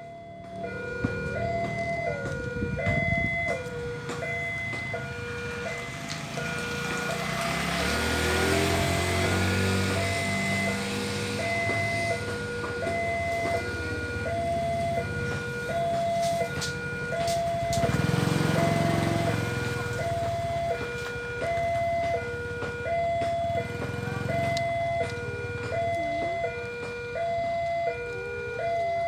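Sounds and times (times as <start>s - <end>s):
level crossing two-tone alarm: 0.0s - 29.0s.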